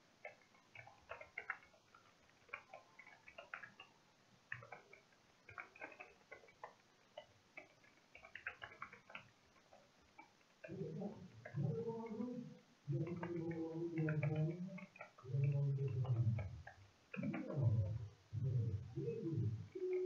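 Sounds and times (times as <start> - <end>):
computer keyboard typing: 0.0 - 20.0.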